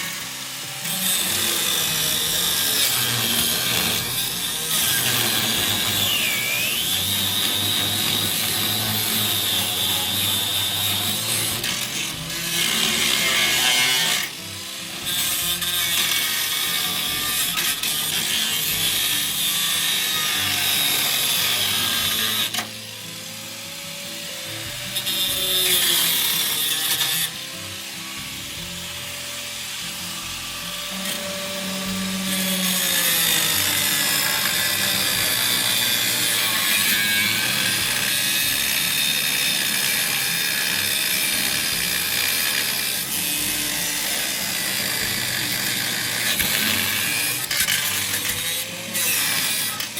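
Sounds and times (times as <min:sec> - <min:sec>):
power grinder grinding: 0:00.0 - 0:49.9.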